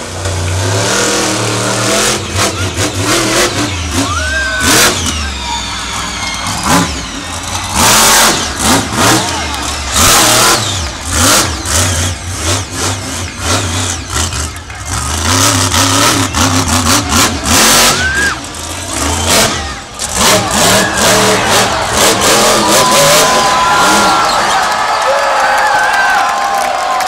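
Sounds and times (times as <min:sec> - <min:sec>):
monster truck engine revving: 0:00.0 - 0:25.6.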